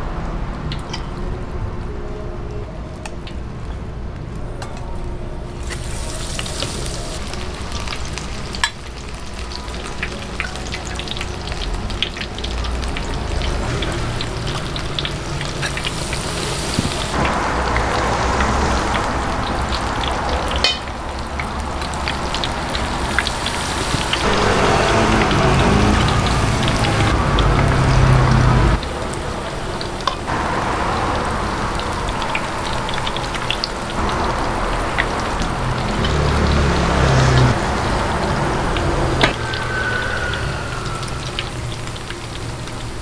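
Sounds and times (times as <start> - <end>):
fritters sizzling in oil: 5.6 - 43.0.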